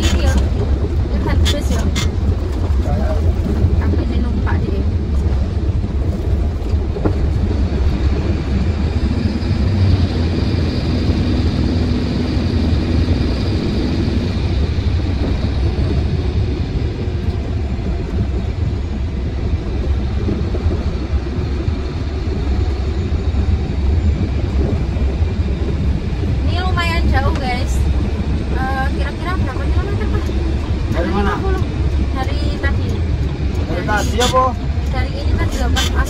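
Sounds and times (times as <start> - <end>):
faint whine: 0.0 - 36.0
truck engine and tyre rumble: 0.0 - 36.0.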